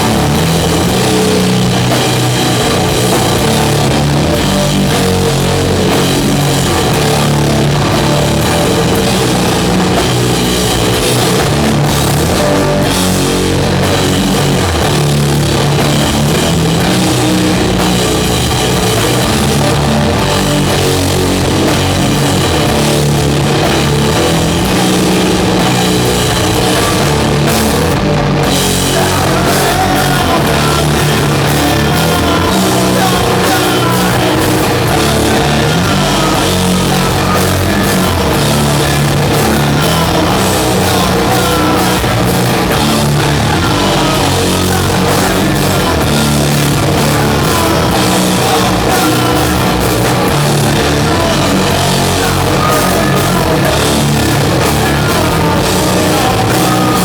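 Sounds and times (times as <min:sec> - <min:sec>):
distorted guitars and bass: 0:00.0 - 0:57.0
drums: 0:00.0 - 0:57.0.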